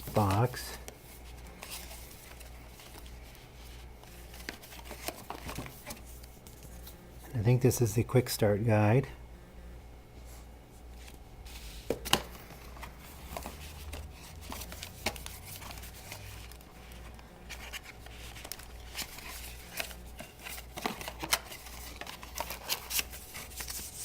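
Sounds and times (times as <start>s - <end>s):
paper and cardboard rustling: 0.0s - 7.0s, 10.9s - 24.0s.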